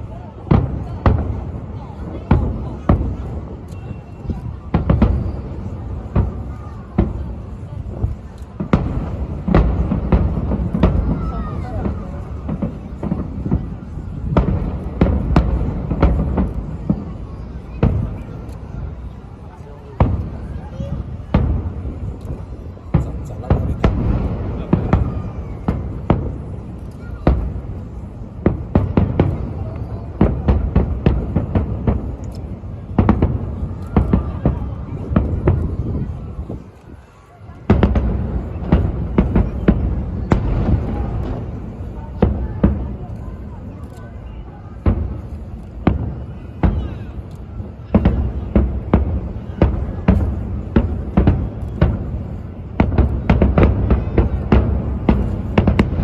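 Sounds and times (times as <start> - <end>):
fireworks bangs: 0.0 - 56.0
low rumble of distant blasts: 0.0 - 56.0.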